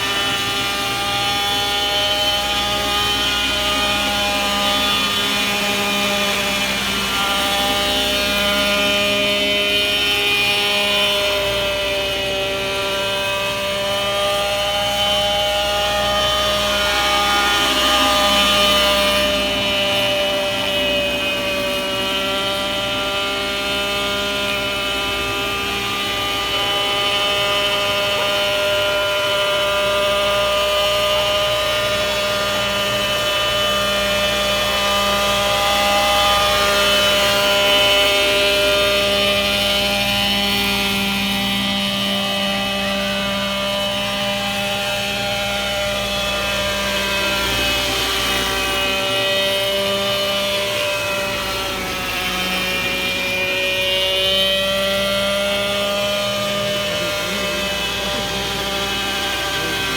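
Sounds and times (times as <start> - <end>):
model helicopter engine and rotor: 0.0 - 59.9.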